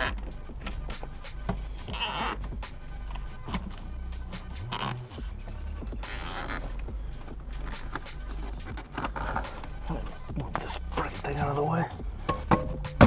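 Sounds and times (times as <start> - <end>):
cable ties zipping: 0.0 - 10.8
wires being handled and scraped: 0.0 - 13.0.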